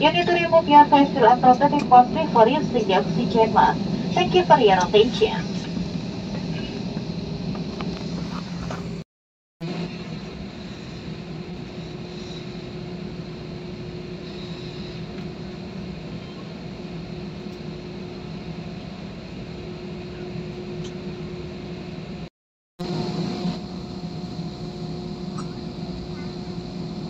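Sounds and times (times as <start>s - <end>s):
airliner cabin drone: 0.0s - 9.0s, 9.6s - 27.0s.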